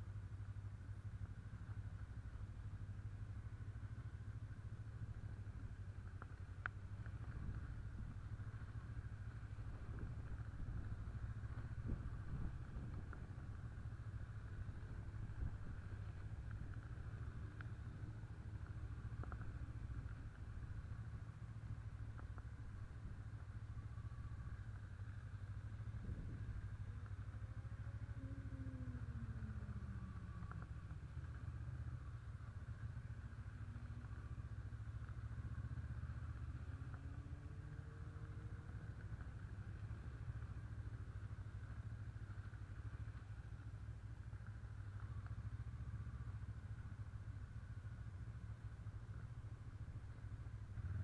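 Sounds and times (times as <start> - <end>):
motorcycle engine droning: 0.0 - 51.0.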